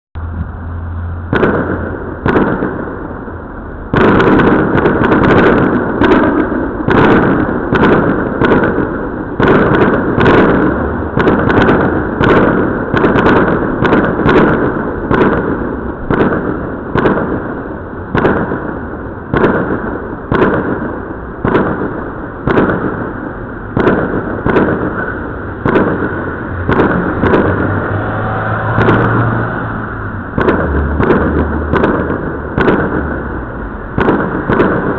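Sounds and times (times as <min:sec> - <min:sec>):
fireworks bangs: 0:01.2 - 0:34.9.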